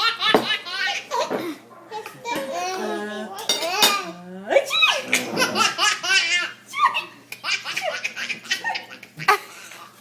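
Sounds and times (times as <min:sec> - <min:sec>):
baby laughing: 0:00.0 - 0:03.0, 0:04.9 - 0:09.9.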